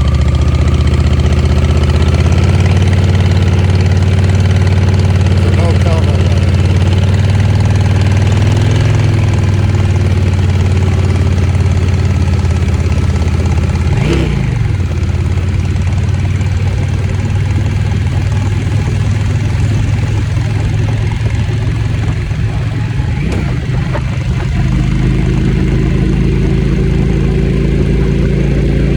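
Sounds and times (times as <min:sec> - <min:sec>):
motorcycle engine at low revs: 0:00.0 - 0:28.9.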